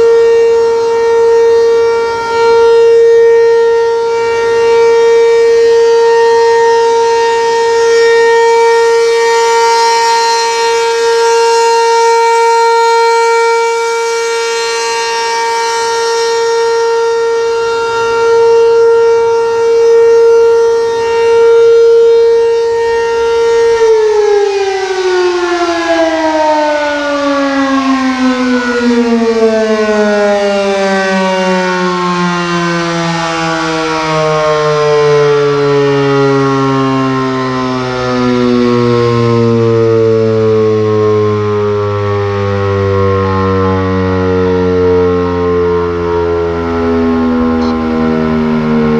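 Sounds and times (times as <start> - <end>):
siren winding down: 0.0 - 48.9
warning siren steady tone: 0.0 - 48.9.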